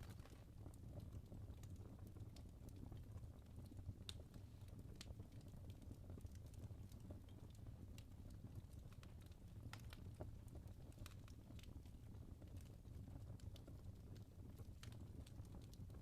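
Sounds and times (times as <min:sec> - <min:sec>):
logs crackling in fireplace: 0:00.0 - 0:16.0.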